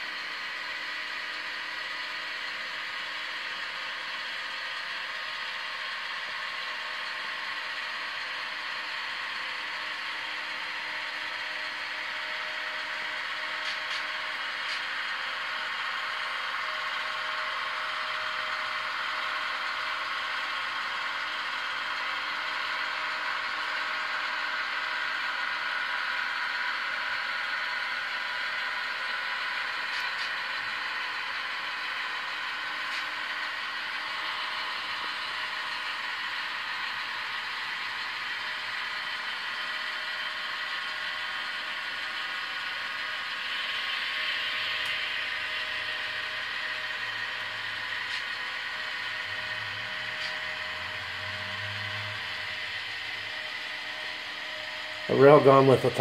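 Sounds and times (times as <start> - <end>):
model train wheels rolling on track: 0.0 - 56.0
thin diesel engine sound from speakers: 0.0 - 56.0.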